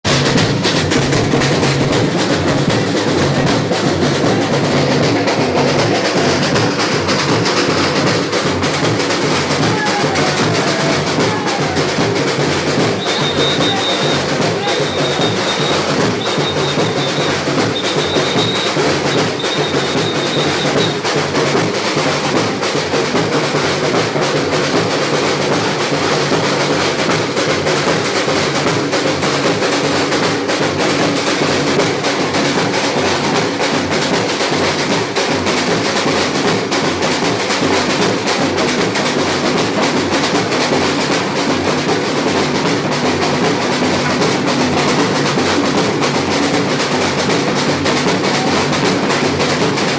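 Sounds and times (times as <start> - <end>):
samba drum groove: 0.0 - 49.9.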